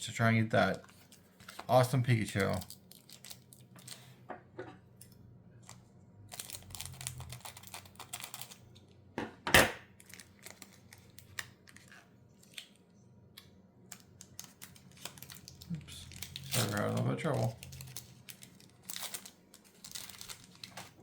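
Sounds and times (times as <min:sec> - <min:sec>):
foil wrapper crinkling and tearing: 0:00.6 - 0:04.1, 0:05.7 - 0:08.8, 0:09.9 - 0:12.9, 0:13.9 - 0:21.0.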